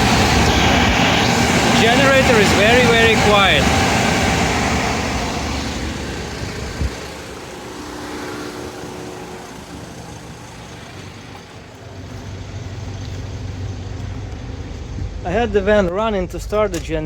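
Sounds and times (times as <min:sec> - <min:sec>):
generator and engine drone: 0:00.0 - 0:17.0.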